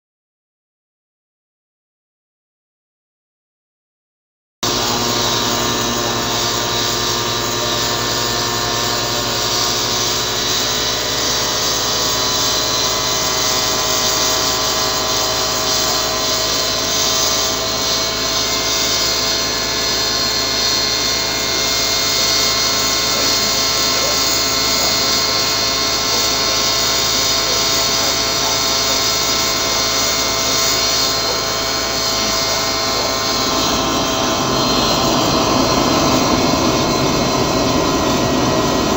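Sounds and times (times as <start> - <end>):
jet engine rushing hiss: 4.6 - 38.9.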